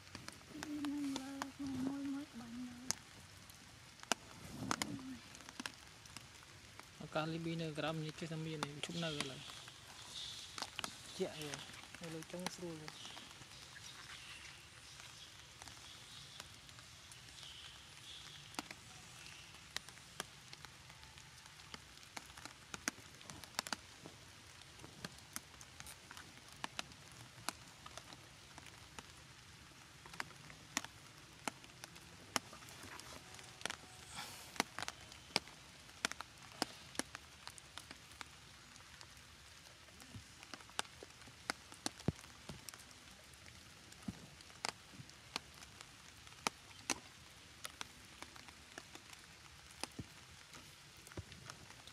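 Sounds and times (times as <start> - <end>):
water drops tapping on umbrella: 0.0 - 7.0, 8.0 - 16.6, 17.2 - 39.2, 39.9 - 51.9
light rain hiss: 0.0 - 51.9.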